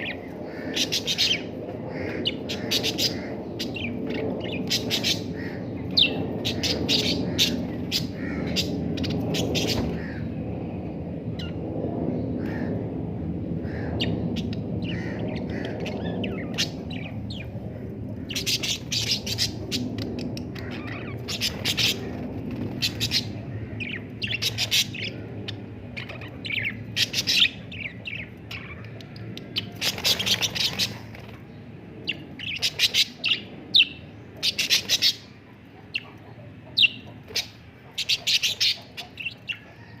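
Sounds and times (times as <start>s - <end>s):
small birds chirping: 0.0s - 12.8s, 13.6s - 40.0s
low background rumble: 0.0s - 38.2s.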